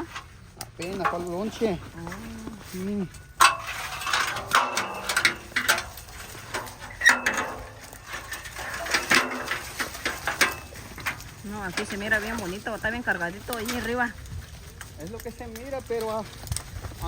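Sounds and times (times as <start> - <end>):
leaves and branches rustling: 0.0 - 17.0.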